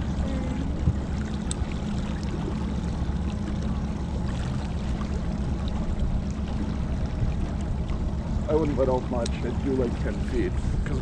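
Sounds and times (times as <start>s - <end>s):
outboard motor humming: 0.0s - 11.0s
water churning: 0.0s - 11.0s.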